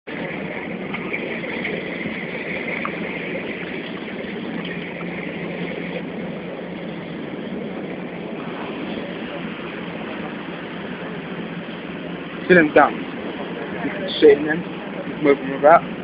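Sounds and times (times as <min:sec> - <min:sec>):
boat engine humming: 0:00.0 - 0:16.0
water washing along hull: 0:00.0 - 0:16.0.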